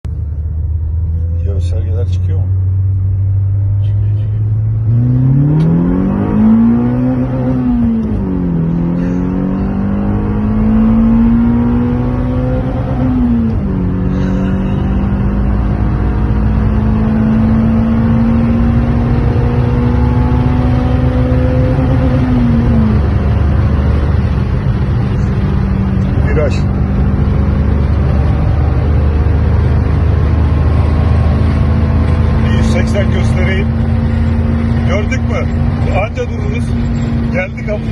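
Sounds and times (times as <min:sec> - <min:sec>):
car engine revving: 0:00.1 - 0:37.9.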